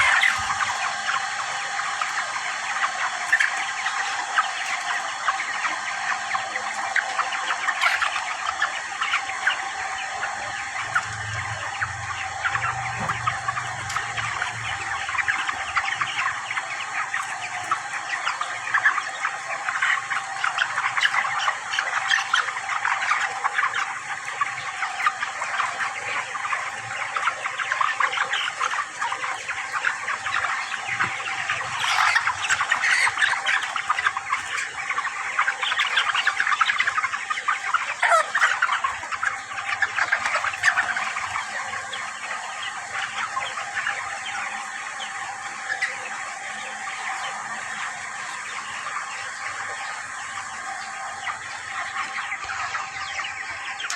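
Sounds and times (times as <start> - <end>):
chickens cheeping and clucking: 0.0 - 53.9.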